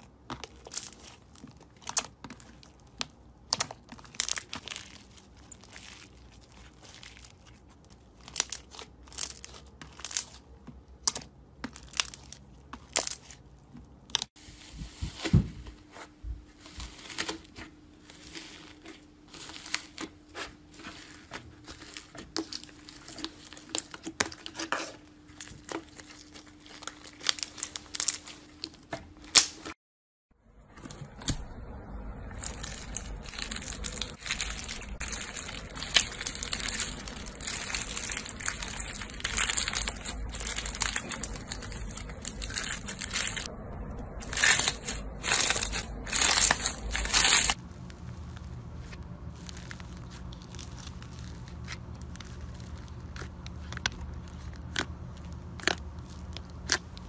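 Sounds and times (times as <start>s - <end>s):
slime crackling and popping: 0.0s - 14.4s, 16.7s - 29.7s, 32.3s - 43.5s, 44.2s - 57.0s.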